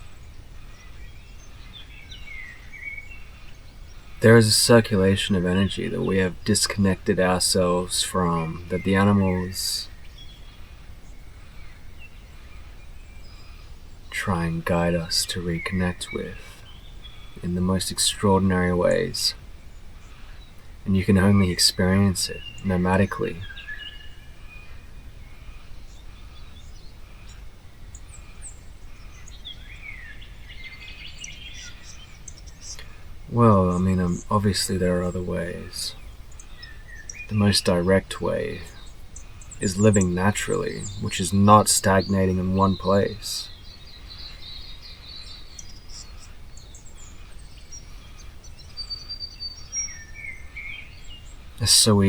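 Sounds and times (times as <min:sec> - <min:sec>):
birds chirping and whistling: 0:00.0 - 0:52.0.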